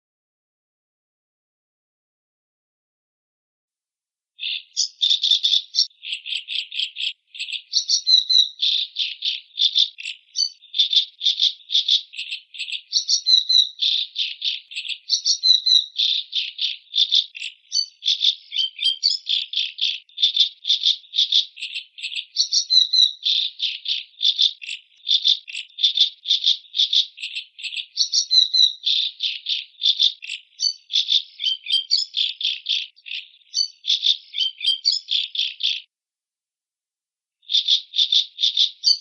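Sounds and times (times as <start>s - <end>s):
macaw harsh rattling calls: 4.4s - 35.8s, 37.4s - 39.0s.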